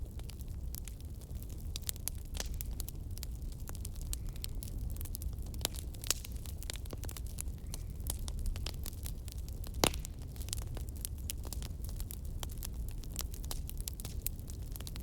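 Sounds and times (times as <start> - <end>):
campfire logs crackling: 0.0 - 15.0
flames rumbling: 0.0 - 15.0.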